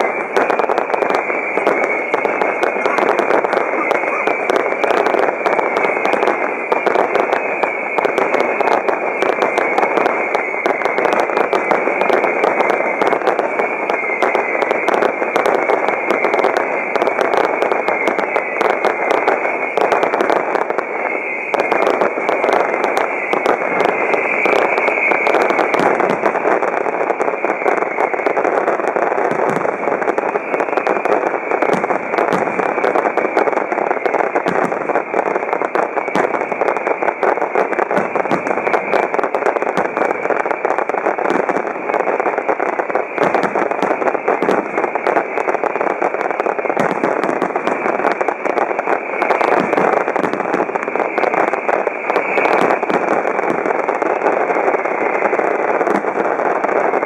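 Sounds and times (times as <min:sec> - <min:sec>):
fireworks barrage: 0:00.0 - 0:57.0
sharp firework cracks: 0:00.0 - 0:57.0.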